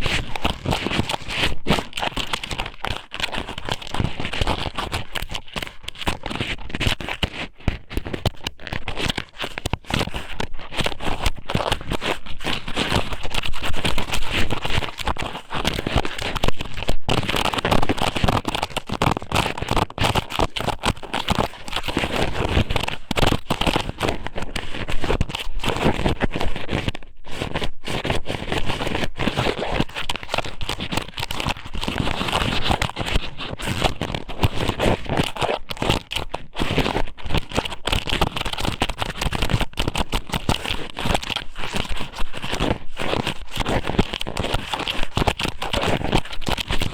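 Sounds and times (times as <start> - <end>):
close-up crackling on microphone: 0.0 - 46.9.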